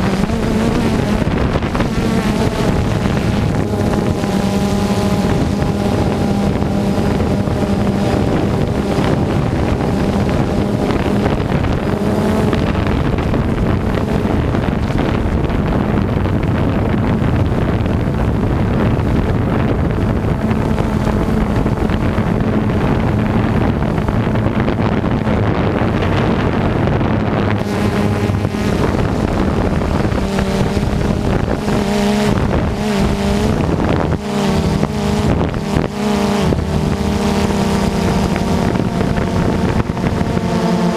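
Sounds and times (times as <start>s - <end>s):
harvest machinery engine drone: 0.0s - 40.9s
wind noise on microphone: 0.0s - 40.9s.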